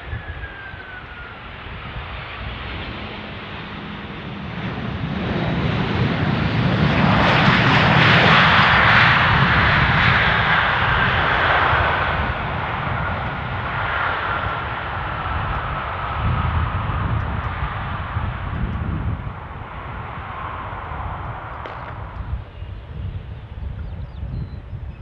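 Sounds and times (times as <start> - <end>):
high jet engine whine: 0.0 - 25.0
jet aircraft passing: 0.0 - 25.0.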